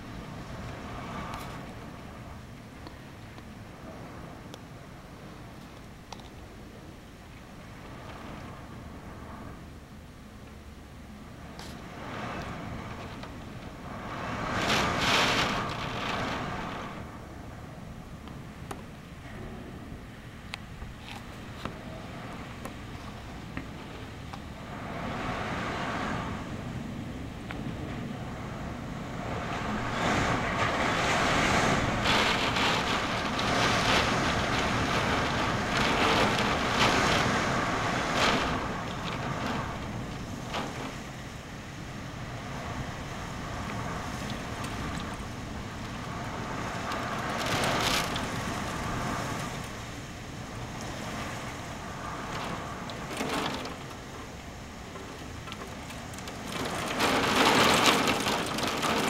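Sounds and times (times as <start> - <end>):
heavy rain: 0.0 - 6.2, 11.2 - 59.0
gusty storm wind: 0.0 - 59.0.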